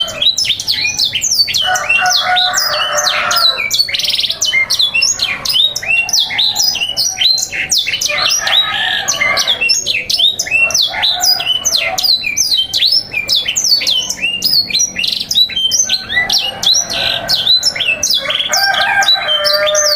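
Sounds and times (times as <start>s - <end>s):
canaries singing: 0.0s - 19.9s.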